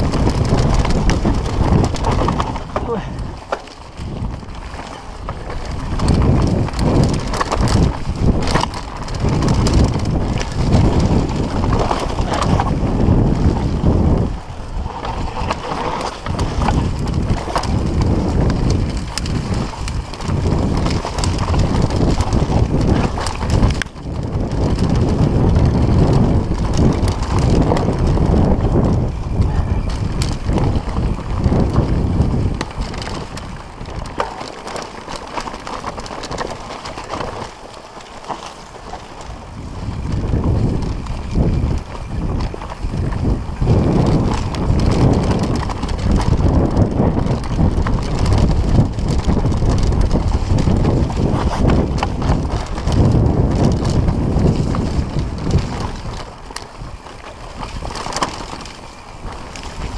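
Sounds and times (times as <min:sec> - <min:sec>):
bike rattling and knocking: 0:00.0 - 0:59.9
tyres rumbling over dirt: 0:00.0 - 0:59.9
wind buffeting microphone: 0:00.0 - 0:59.9.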